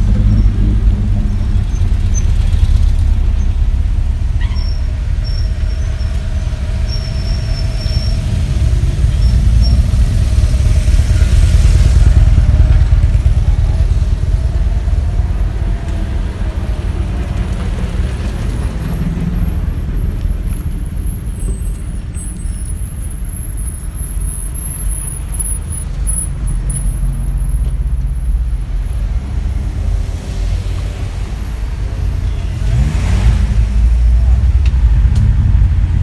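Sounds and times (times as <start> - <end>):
car engines rumbling past: 0.0 - 36.0.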